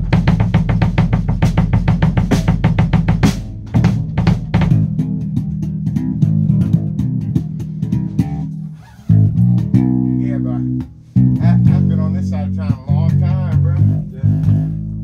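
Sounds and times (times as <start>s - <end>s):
drum kit playing: 0.0s - 15.0s
electric bass guitar notes: 0.0s - 15.0s.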